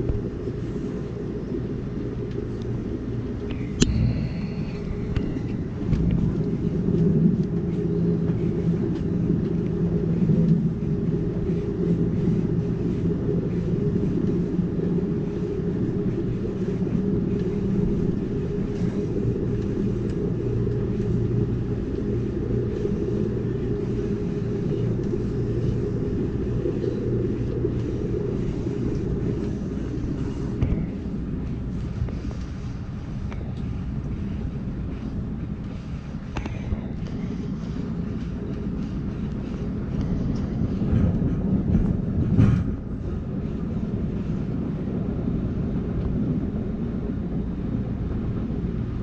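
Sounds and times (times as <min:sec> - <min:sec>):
faint hum: 0:00.0 - 0:49.0
train rumbling on board: 0:00.0 - 0:49.0.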